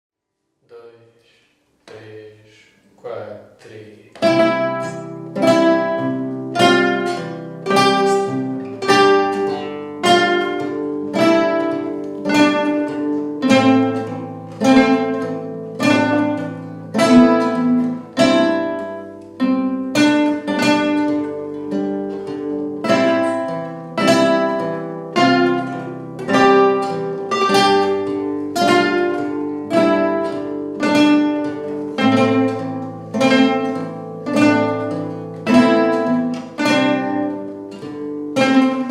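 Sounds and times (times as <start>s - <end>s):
guitar plucked chords: 4.0s - 38.9s.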